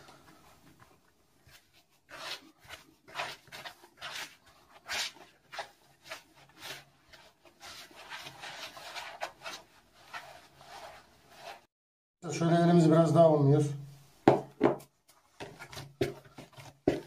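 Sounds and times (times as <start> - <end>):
hands kneading dough: 0.0 - 11.7, 14.4 - 17.0.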